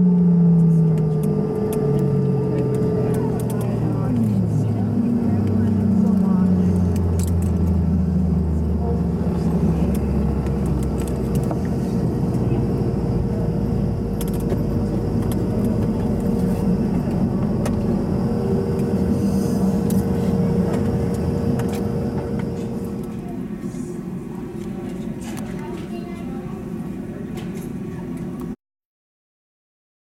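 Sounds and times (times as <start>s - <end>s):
deeper hum: 0.0s - 27.9s
aircraft cabin rumble and hum: 0.0s - 28.6s.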